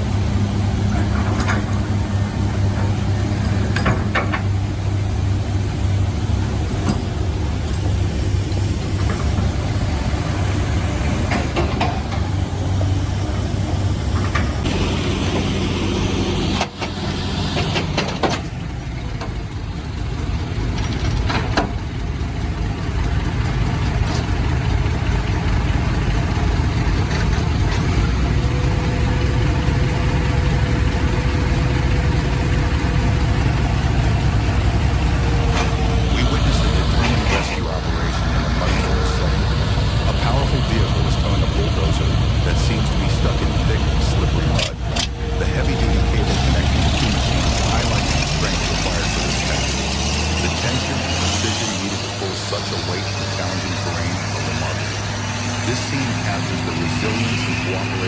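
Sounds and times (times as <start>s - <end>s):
heavy diesel engines running: 0.0s - 58.0s
knocks and clanks: 0.8s - 4.8s, 6.6s - 9.8s, 10.4s - 15.6s, 16.3s - 19.7s, 20.7s - 22.3s, 23.0s - 55.7s.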